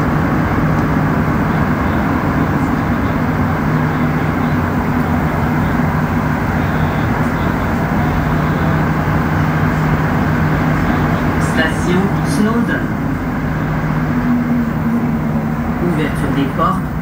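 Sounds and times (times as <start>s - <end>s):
constant low hum: 0.0s - 17.0s
train rumbling: 0.0s - 17.0s.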